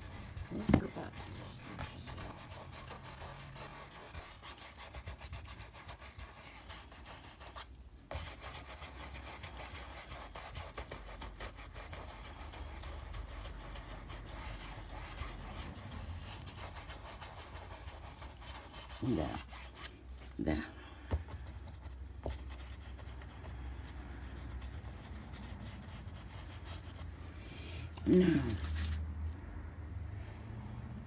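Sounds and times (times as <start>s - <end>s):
paintbrush scrubbing on canvas: 0.0s - 27.2s, 28.0s - 29.0s.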